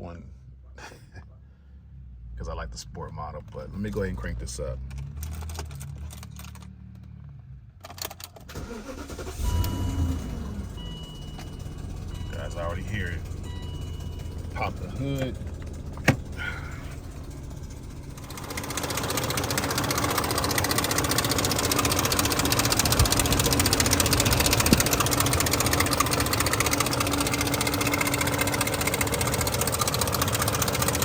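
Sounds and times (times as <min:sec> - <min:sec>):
car engine idling with rattle: 0:03.3 - 0:31.0.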